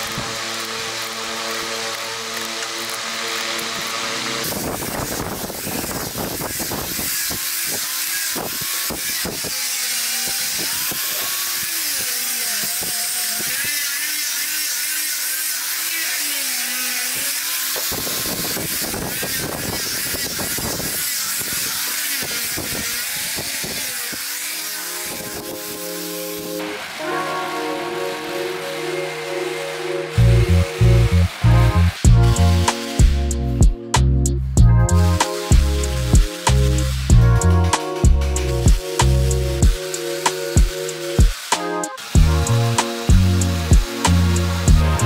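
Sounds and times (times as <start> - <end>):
angle grinder sanding wood: 0.0 - 45.0.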